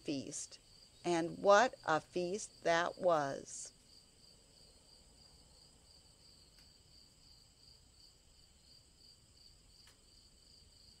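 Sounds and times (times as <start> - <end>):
faint crickets chirping: 0.0 - 11.0.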